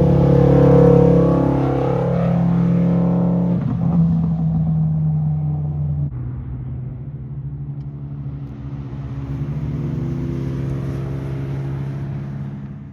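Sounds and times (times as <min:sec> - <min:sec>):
car engine running at low revs: 0:00.0 - 0:12.9.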